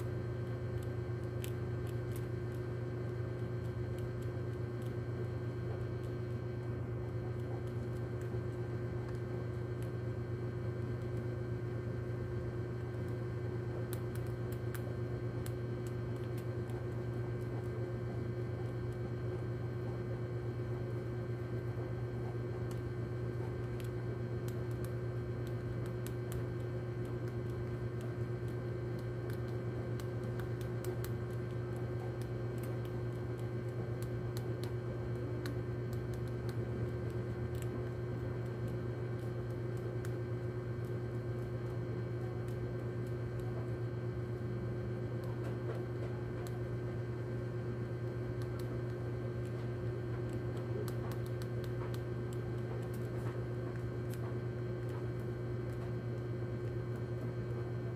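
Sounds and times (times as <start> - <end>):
low mechanical hum: 0.0 - 57.9
rat nibbling pellets: 0.0 - 57.9.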